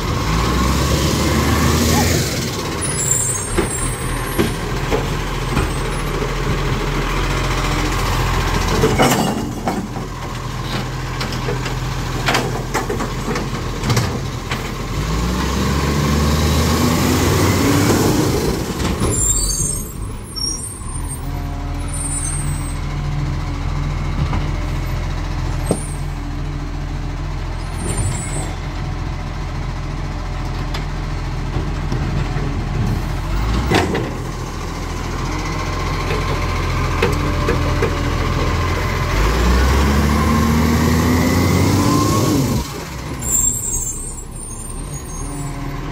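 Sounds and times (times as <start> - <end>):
diesel truck engine revving: 0.0 - 9.0, 10.4 - 30.3, 30.9 - 45.9.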